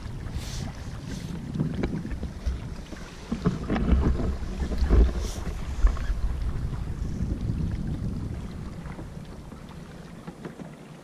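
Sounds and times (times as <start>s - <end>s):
wind buffeting microphone: 0.0s - 10.2s
water lapping around kayak: 0.0s - 11.0s.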